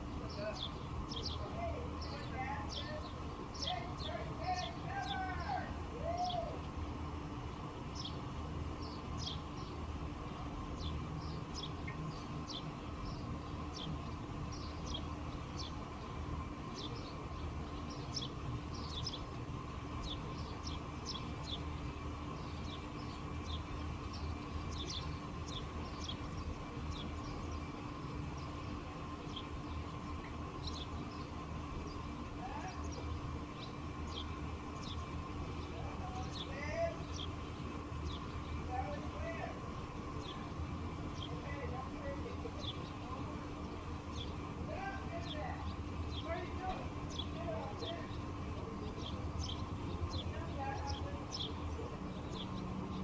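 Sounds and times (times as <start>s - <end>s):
low background rumble: 0.0s - 53.0s
songbirds chirping: 0.0s - 53.0s.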